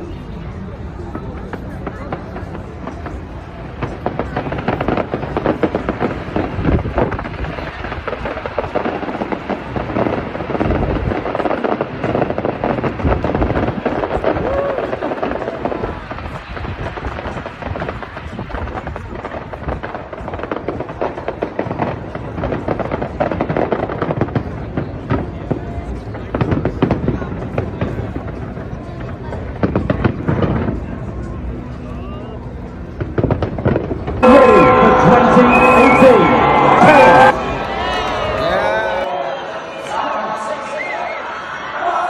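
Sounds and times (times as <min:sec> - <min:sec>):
fireworks bangs and crackling: 0:00.0 - 0:39.0
faint voices: 0:00.0 - 0:42.0.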